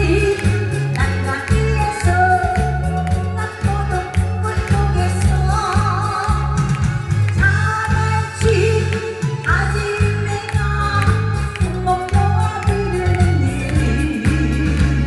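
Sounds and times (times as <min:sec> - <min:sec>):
backing track with steady beat: 0:00.0 - 0:15.0
woman singing into microphone: 0:00.0 - 0:15.0.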